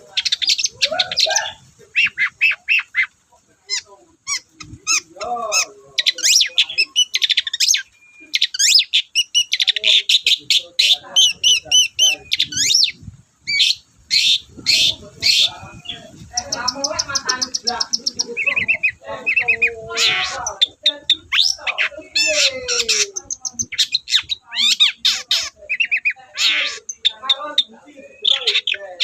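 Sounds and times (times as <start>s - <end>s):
shrike singing: 0.0s - 29.0s.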